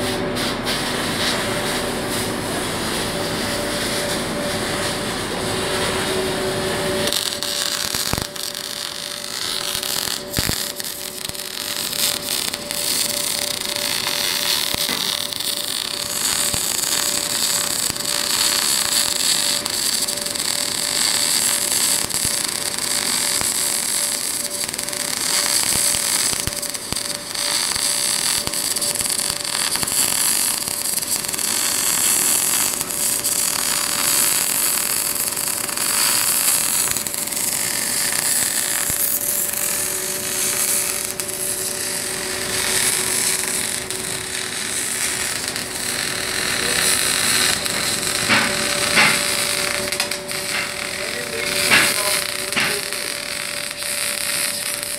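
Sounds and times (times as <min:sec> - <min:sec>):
welding arc crackling and hissing: 0:00.0 - 0:54.9.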